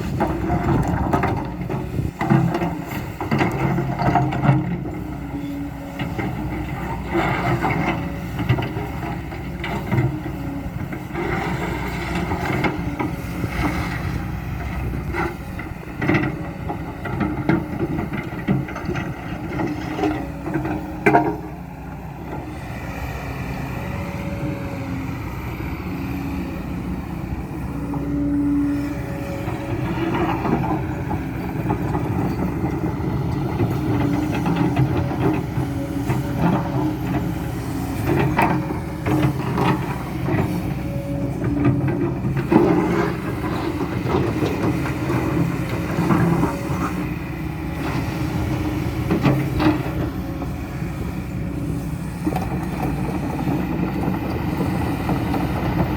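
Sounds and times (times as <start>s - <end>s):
excavator diesel engine running: 0.0s - 55.9s
hydraulics whining: 0.0s - 55.9s.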